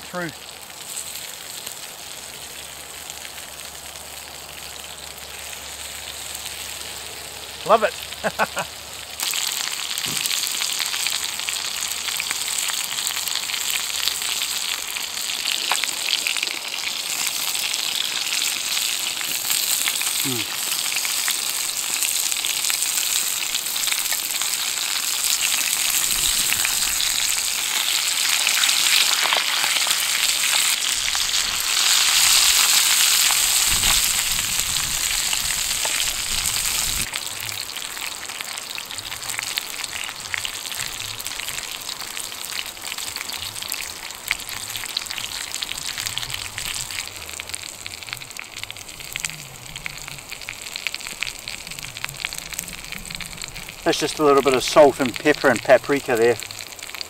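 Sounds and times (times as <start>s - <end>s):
sausage and potatoes sizzling in pan: 0.0s - 57.0s.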